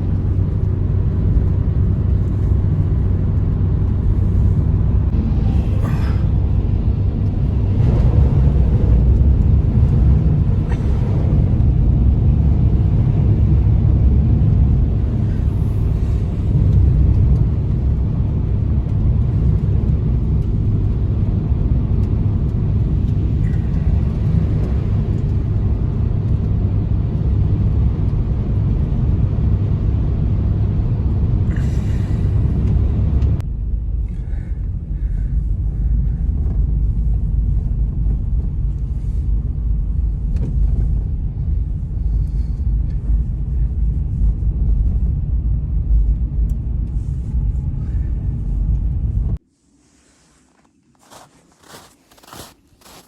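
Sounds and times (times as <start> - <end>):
strong wind buffeting microphone: 0.0 - 49.4.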